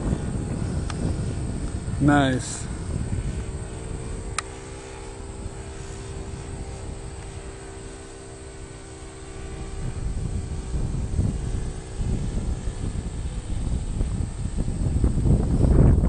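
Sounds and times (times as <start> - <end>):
low rumble: 0.0 - 16.0
model plane engine droning: 0.0 - 16.0.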